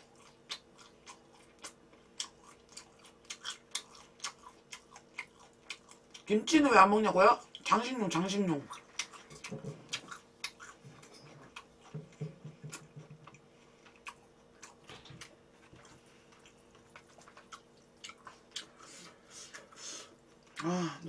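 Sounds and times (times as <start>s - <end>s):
person chewing food: 0.0s - 6.3s, 8.6s - 20.7s.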